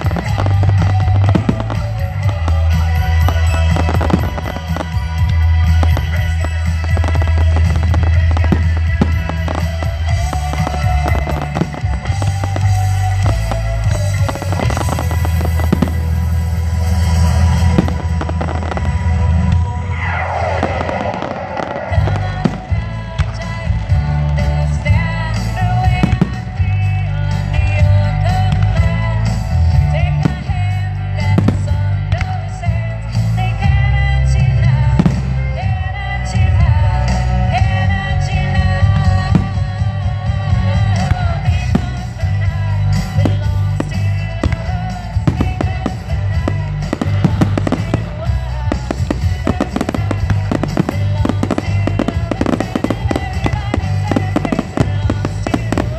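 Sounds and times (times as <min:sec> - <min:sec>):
fireworks bursting and crackling: 0:00.0 - 0:55.9
music with singing and bass beat: 0:00.0 - 0:55.9.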